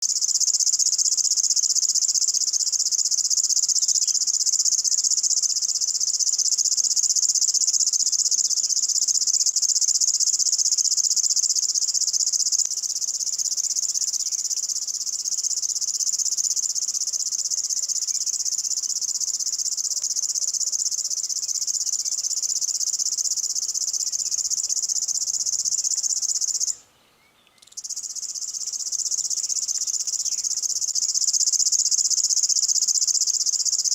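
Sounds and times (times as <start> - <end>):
bird singing insect-like reeling chirp: 0.0 - 33.9.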